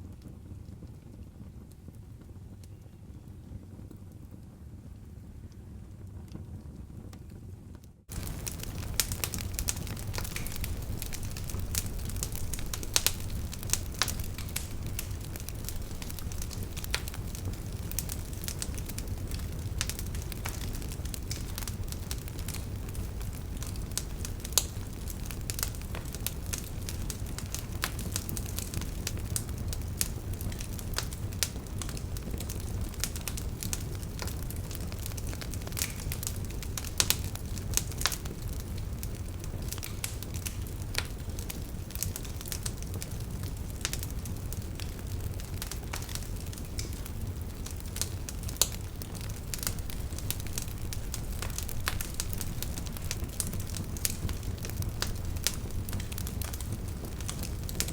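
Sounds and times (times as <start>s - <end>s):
campfire crackling and popping: 8.1s - 57.9s.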